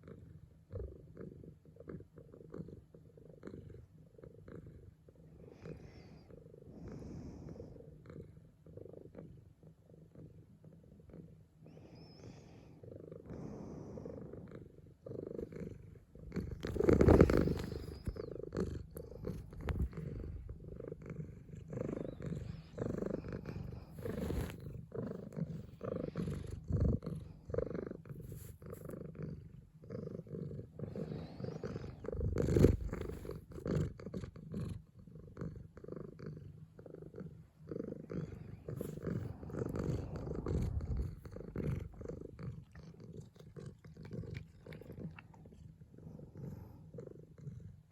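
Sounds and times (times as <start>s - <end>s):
cat purring: 0.0s - 47.9s.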